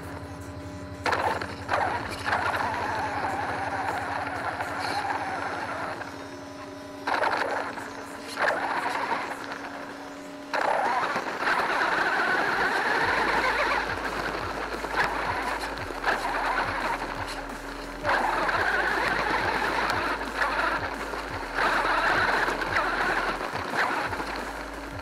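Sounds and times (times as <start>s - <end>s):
electric motor whirring: 0.0s - 25.0s
electrical hum: 0.0s - 25.0s.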